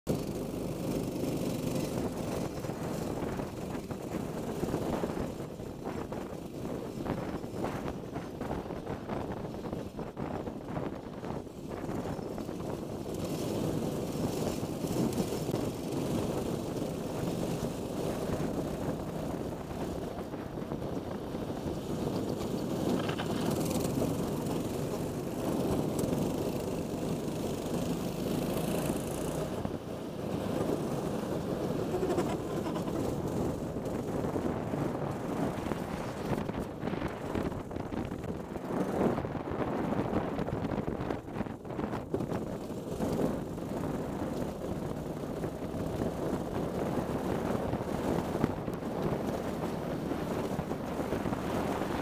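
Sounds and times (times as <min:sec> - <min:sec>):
kart engine running: 0:00.1 - 0:41.2, 0:41.9 - 0:52.0
wind noise on microphone: 0:00.1 - 0:52.0.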